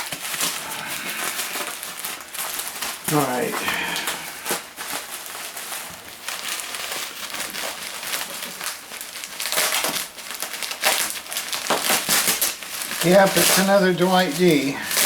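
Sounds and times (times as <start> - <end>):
packing material crinkling: 0.0 - 15.0.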